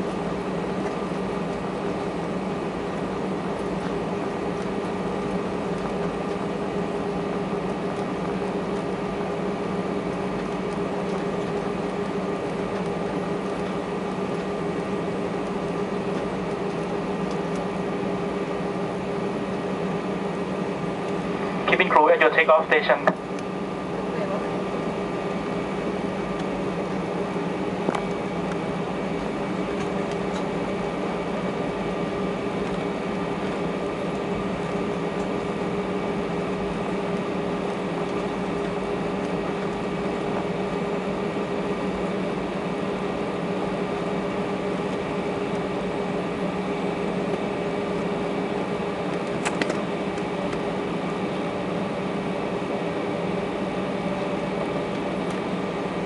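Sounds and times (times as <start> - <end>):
aircraft cabin hum: 0.0 - 56.0.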